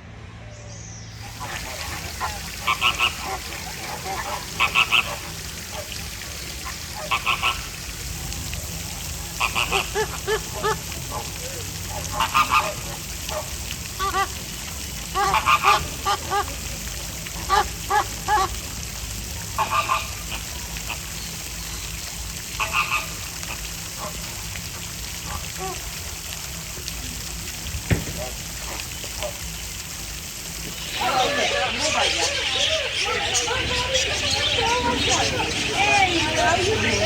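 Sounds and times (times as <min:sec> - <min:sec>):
flamingos honking: 0:01.2 - 0:21.6, 0:22.3 - 0:26.6, 0:27.5 - 0:37.0.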